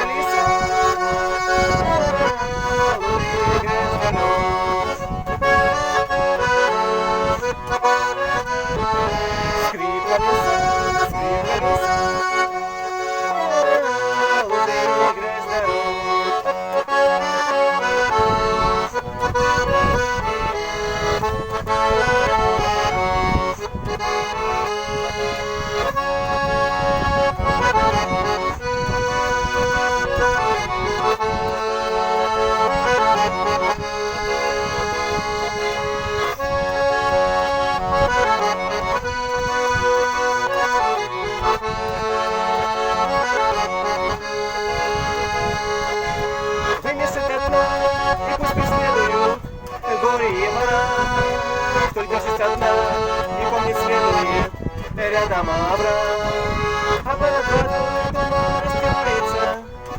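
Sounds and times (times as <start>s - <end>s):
button accordion playing folk tune: 0.0s - 59.9s.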